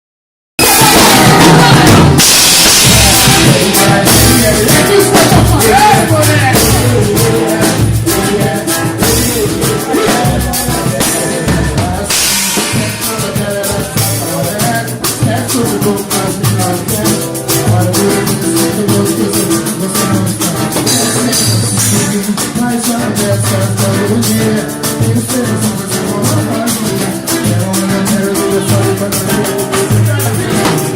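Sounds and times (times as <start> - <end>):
band playing: 0.6 - 30.9
drum kit: 0.6 - 30.9
person singing: 0.6 - 30.9.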